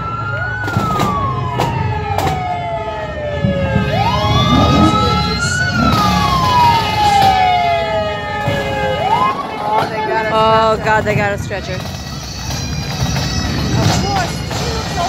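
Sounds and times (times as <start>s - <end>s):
emergency vehicle siren wailing: 0.0s - 15.0s.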